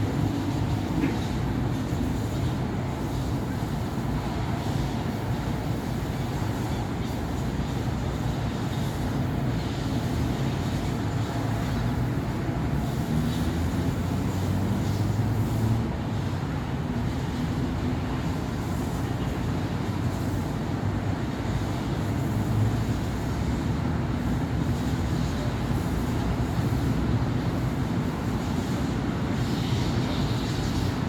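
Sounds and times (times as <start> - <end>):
cars and buses passing: 0.0 - 31.0.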